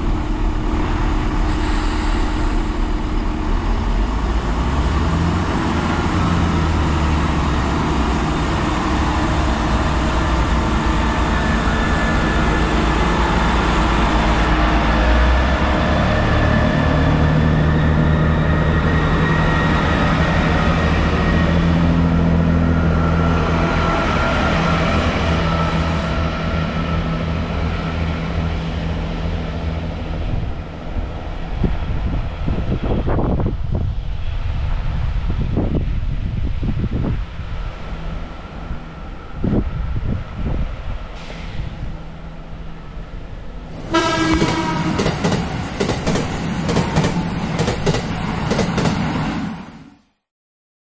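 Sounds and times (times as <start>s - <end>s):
train wheels on rails: 0.0s - 49.9s
diesel train engine: 0.0s - 50.0s.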